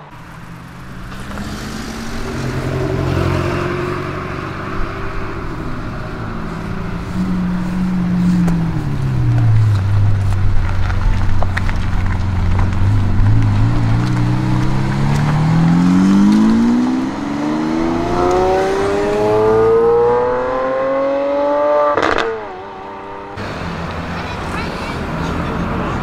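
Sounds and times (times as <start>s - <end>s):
sports car engine accelerating: 0.0s - 26.0s.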